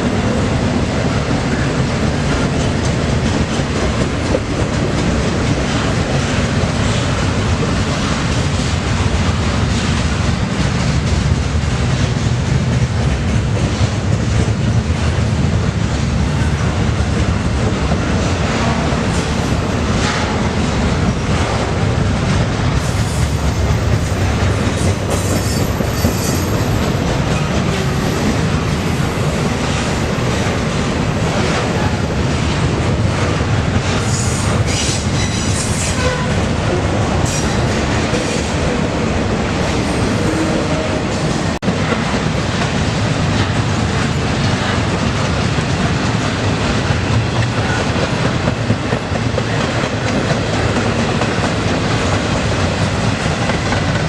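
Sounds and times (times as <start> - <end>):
train wheels rumbling over rails: 0.0 - 54.0.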